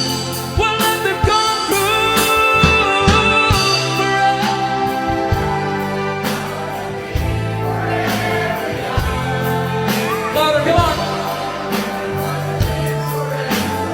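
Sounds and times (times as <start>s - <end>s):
person singing: 0.0s - 13.9s
pop music: 0.0s - 13.9s.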